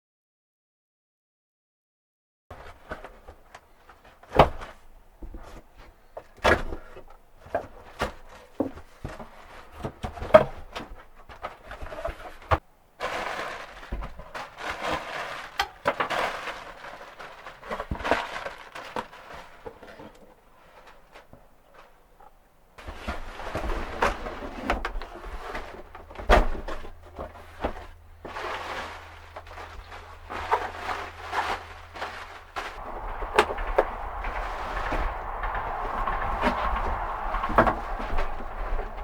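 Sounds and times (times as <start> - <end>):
rustling or scraping: 2.5 - 39.0.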